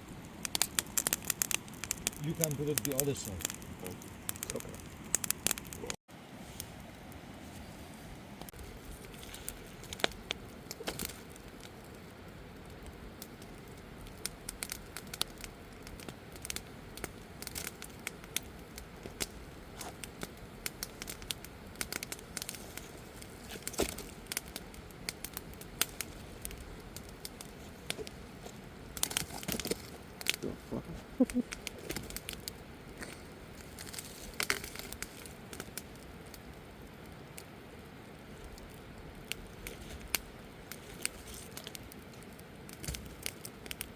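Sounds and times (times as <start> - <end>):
campfire crackling: 0.0 - 43.9
faint fire hiss: 0.0 - 43.9
sharp fire pops: 0.1 - 6.0, 8.5 - 37.5, 38.4 - 43.9.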